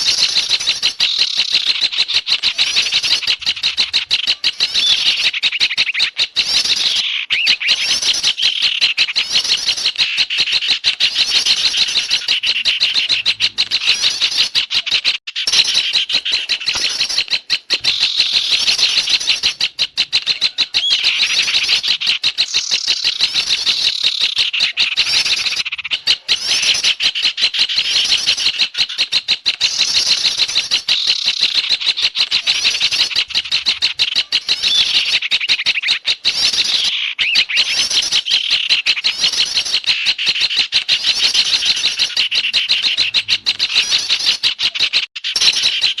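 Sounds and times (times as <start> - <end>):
small songbirds chattering: 0.0 - 46.0.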